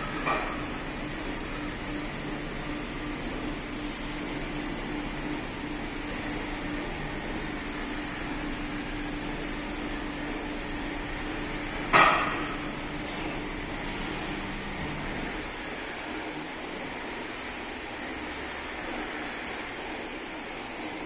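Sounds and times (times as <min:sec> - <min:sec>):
operating table drive humming: 0:00.0 - 0:21.0.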